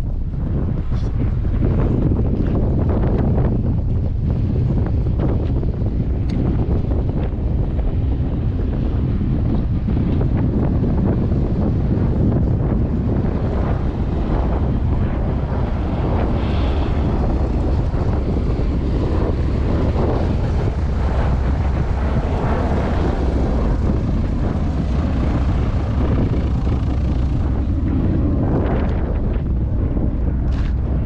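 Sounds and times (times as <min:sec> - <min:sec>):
aircraft engines rumbling overhead: 0:00.0 - 0:31.0
wind buffeting microphone: 0:00.0 - 0:31.0.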